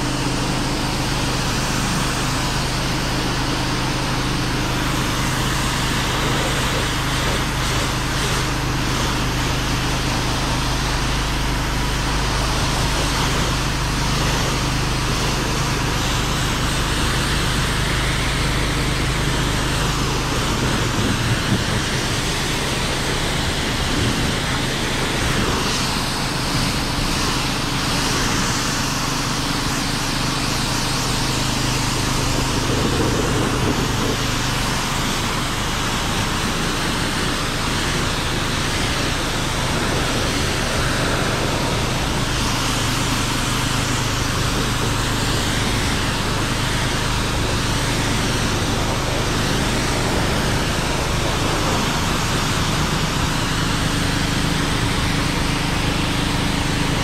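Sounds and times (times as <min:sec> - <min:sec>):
foam spraying from pressure washer: 0:00.0 - 0:57.0
motor and generator drone: 0:00.0 - 0:57.0.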